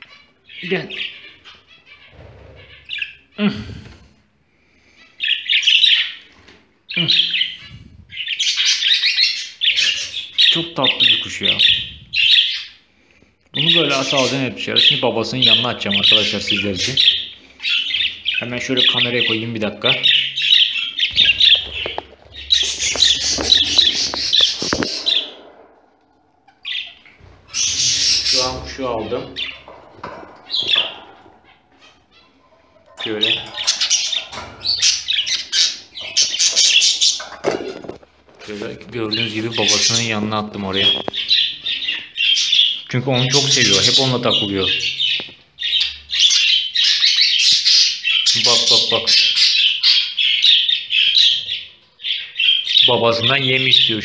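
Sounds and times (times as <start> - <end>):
budgerigars chirping: 0.0 - 3.4, 4.9 - 12.9, 13.6 - 54.0.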